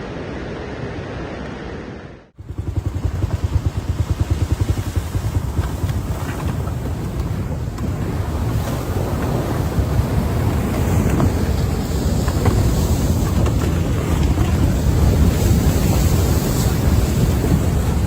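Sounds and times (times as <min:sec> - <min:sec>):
wind buffeting microphone: 0:02.4 - 0:18.0.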